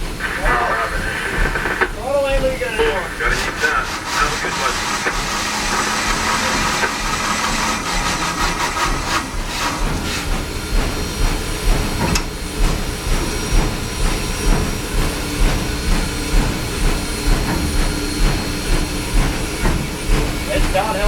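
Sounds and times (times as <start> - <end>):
steam hiss: 0.0 - 21.0
steam locomotive chuffing beat: 0.0 - 21.0.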